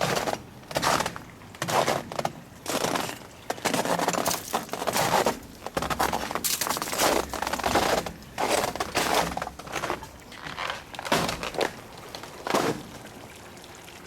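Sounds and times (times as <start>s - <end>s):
footsteps crunching through icy snow: 0.0s - 12.8s.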